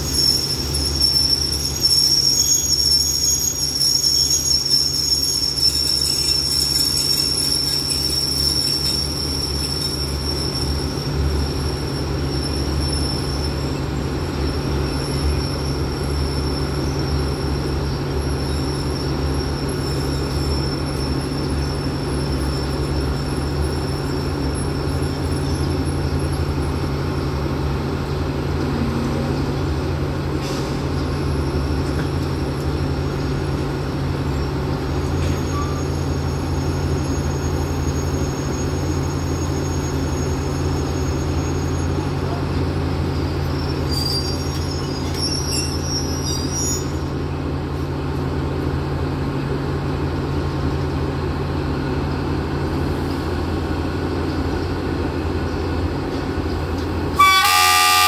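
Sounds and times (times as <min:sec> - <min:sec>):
diesel locomotive idling: 0:00.0 - 0:43.8, 0:46.8 - 0:58.0
train wheels rumbling on rail: 0:00.0 - 0:58.0.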